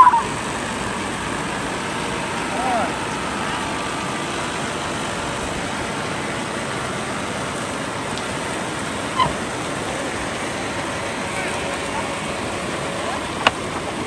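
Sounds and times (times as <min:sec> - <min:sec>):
stream rushing over stones: 0:00.0 - 0:14.0.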